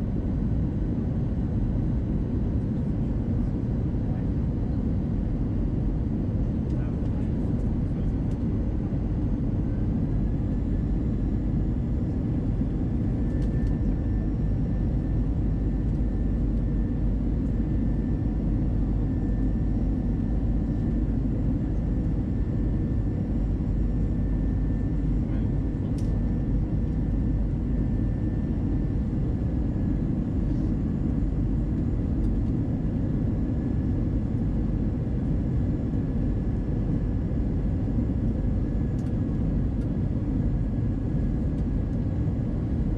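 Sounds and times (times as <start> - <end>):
airplane cabin noise: 0.0 - 42.9.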